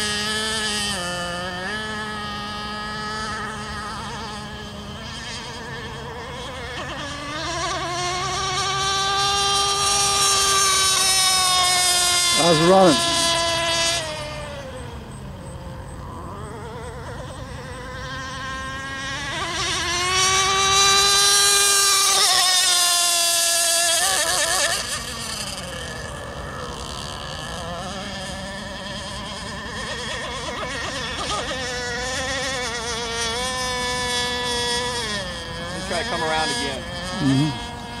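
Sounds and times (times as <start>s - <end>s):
model boat engine high whine: 0.0s - 38.0s.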